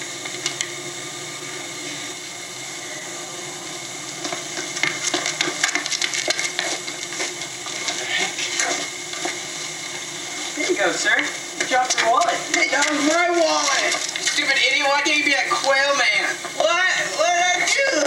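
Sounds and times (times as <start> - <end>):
hiss and hum from tv speaker: 0.0 - 18.0.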